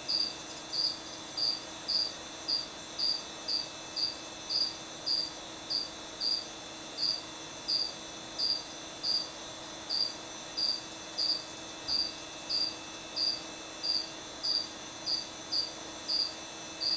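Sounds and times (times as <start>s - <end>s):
cricket chirping: 0.1s - 16.9s.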